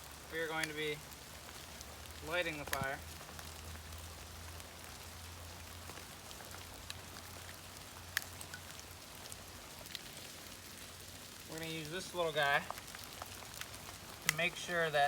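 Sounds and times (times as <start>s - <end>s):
drops ticking nearby: 0.0s - 15.0s
steady rain falling: 0.0s - 15.0s.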